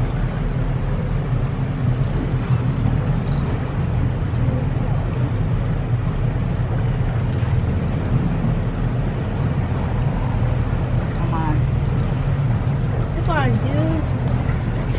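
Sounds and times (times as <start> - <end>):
boat engine hum: 0.0 - 14.9
wind and water rushing: 0.0 - 14.9.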